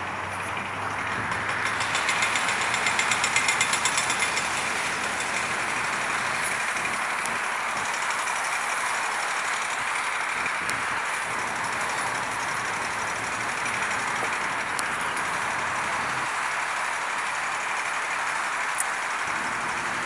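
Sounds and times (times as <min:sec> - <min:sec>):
engines rushing: 0:00.0 - 0:20.0
fast high ticks: 0:00.1 - 0:20.0.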